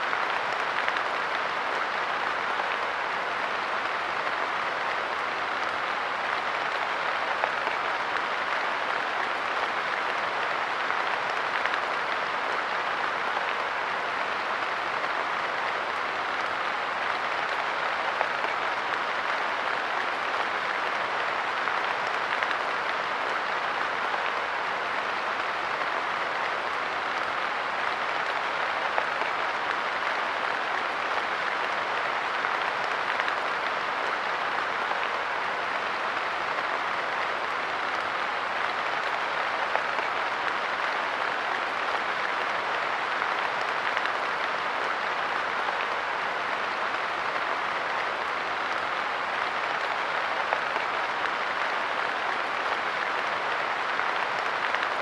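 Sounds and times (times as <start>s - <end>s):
rain pattering on a bench: 0.0s - 55.0s.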